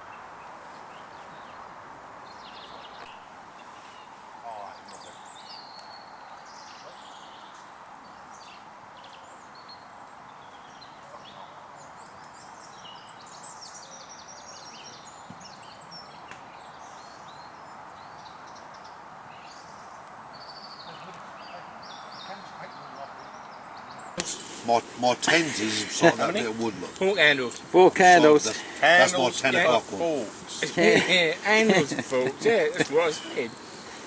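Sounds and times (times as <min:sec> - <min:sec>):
background hiss: 0:00.0 - 0:34.0
small birds singing: 0:00.0 - 0:34.0.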